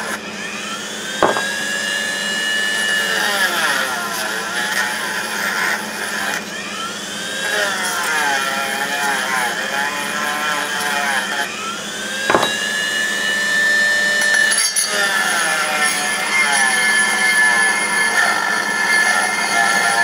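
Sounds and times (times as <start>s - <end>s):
rotary grinder whining on steel: 0.0s - 20.0s.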